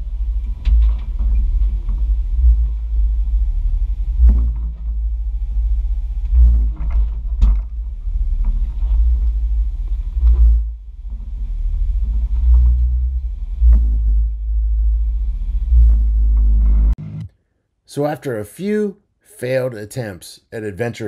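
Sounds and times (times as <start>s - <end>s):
jeep engine rumble: 0.0s - 17.0s.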